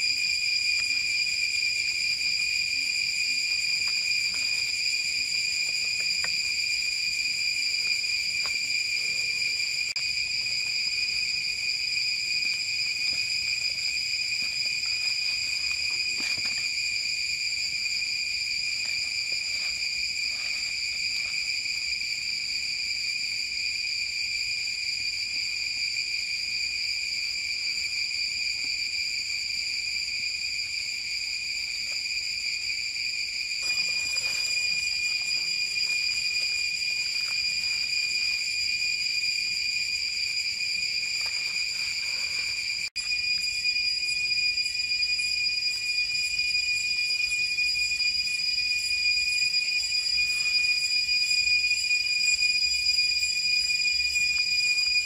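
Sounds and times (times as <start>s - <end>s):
insects singing: 0.0s - 24.1s, 28.4s - 55.0s.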